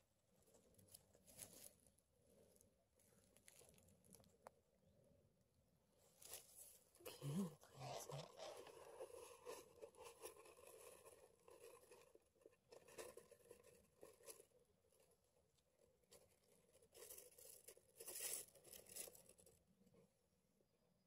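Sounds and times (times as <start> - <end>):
faint rustling and crackling: 0.0 - 4.9, 6.0 - 20.2.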